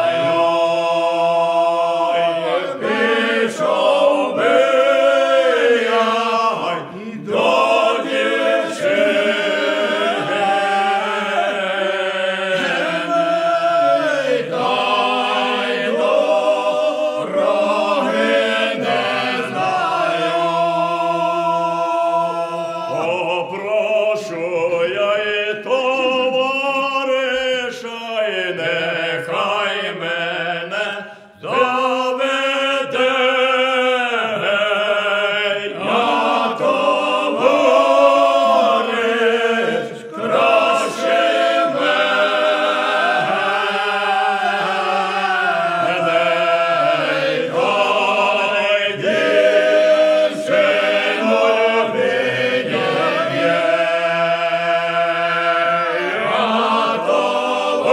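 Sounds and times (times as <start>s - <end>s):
voices singing a cappella folk song: 0.0s - 57.9s.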